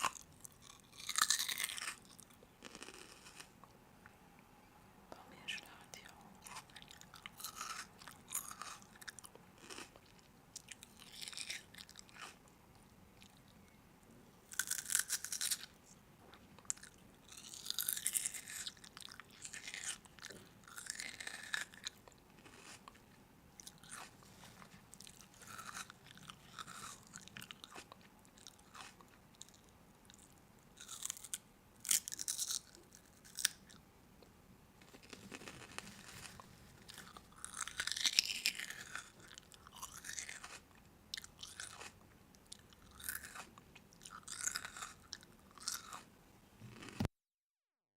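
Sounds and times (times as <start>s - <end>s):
person chewing crisp food: 0.0s - 3.7s, 6.4s - 13.6s, 14.5s - 33.8s, 34.8s - 46.1s, 46.7s - 47.1s.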